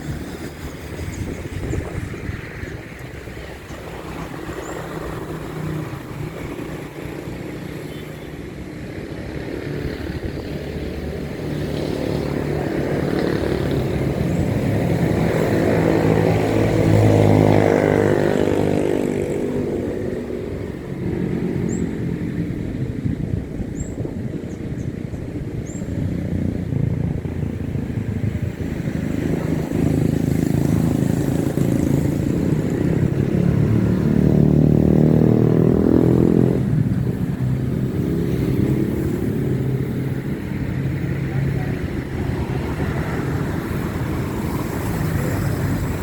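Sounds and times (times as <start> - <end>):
motor engine passing by: 0.0 - 46.0.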